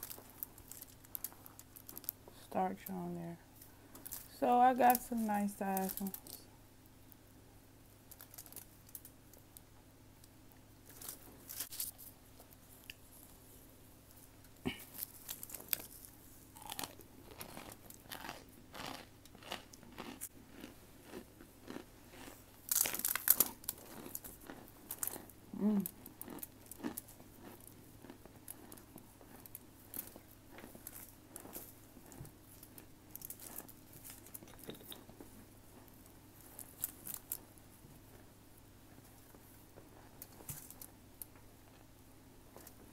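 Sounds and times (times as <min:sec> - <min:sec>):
crunching and chewing: 0:00.0 - 0:02.5, 0:03.6 - 0:06.5, 0:08.0 - 0:13.4, 0:14.1 - 0:42.9.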